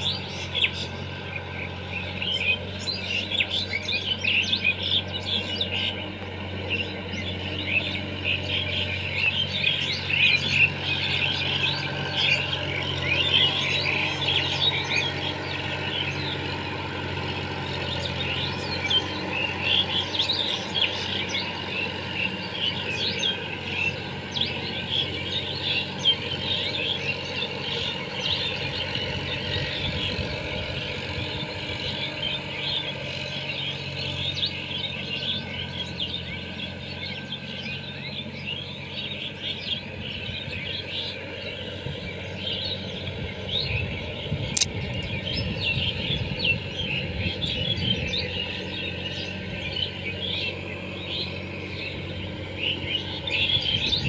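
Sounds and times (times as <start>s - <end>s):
small birds chirping: 0.0s - 54.0s
tractor engine running: 0.0s - 54.0s.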